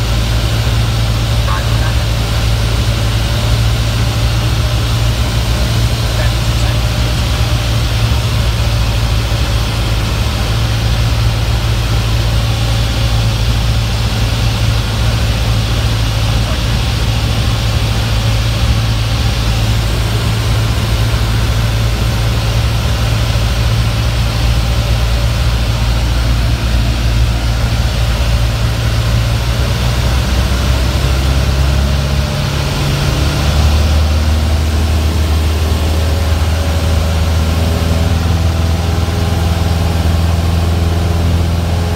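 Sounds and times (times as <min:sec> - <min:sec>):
propeller plane engine drone: 0:00.0 - 0:41.9.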